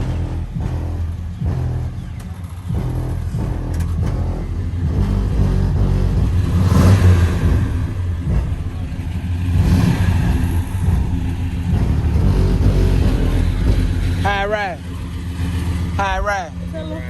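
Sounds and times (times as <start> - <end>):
car engine pulling: 0.0 - 17.0
road noise: 0.0 - 17.0.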